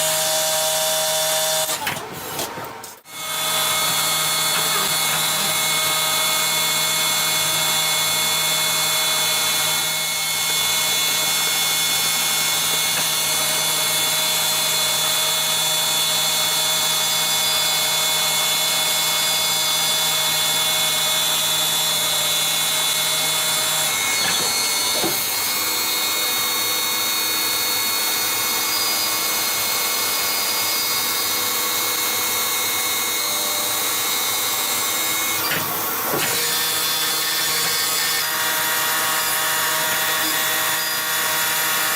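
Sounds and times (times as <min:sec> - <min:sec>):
lathe multi-tone whine: 0:03.1 - 0:41.9.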